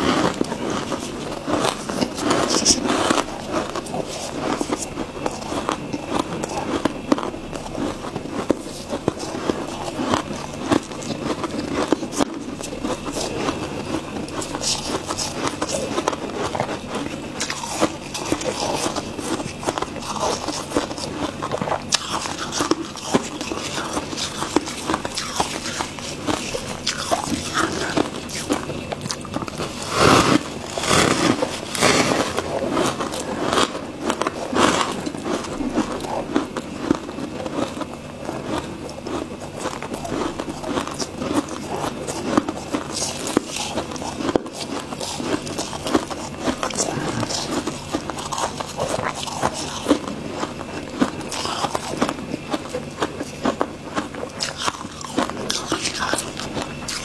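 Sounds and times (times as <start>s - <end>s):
frost being chewed crunching: 0.0s - 57.0s.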